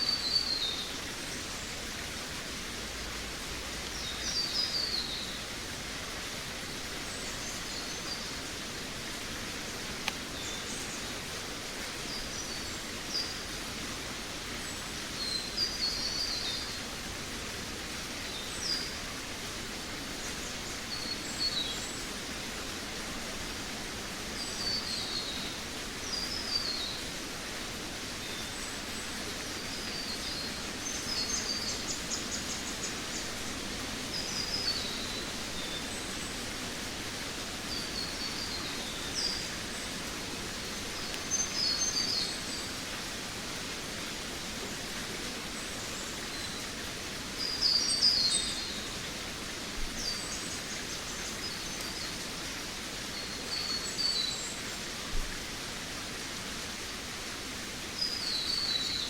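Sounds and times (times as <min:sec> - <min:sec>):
songbirds chirping: 0:00.0 - 0:59.0
steady rushing hiss: 0:00.0 - 0:59.0.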